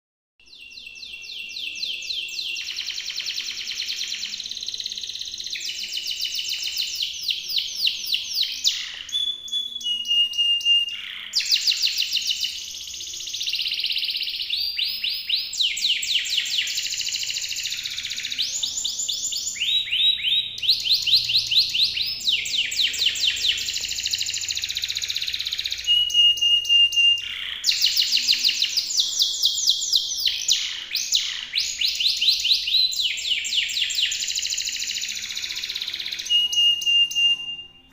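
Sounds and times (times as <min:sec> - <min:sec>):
canary singing trills: 0:00.4 - 0:37.9.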